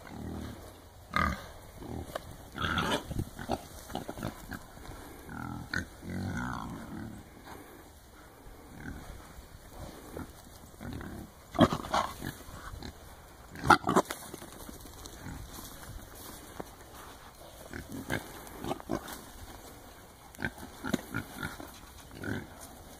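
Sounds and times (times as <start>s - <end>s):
hogs grunting and squealing: 0.0s - 14.2s, 17.5s - 22.9s.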